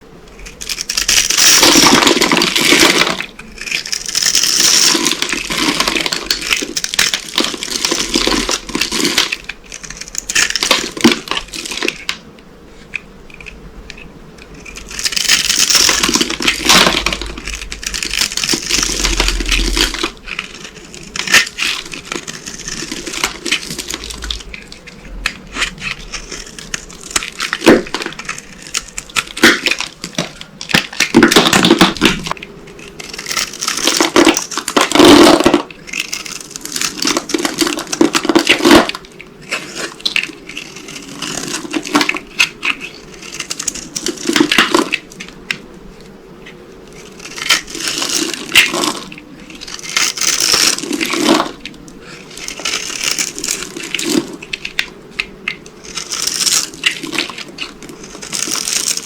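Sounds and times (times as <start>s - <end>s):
soap being crushed crunchy crackling: 0.3s - 59.0s.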